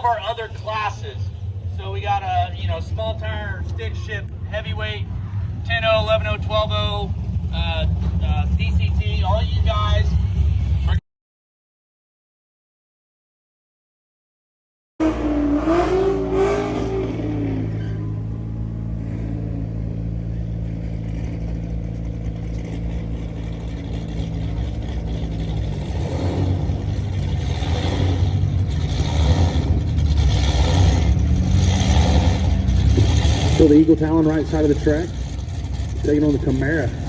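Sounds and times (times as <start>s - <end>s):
car engines idling and revving: 0.0s - 11.0s, 15.0s - 37.0s.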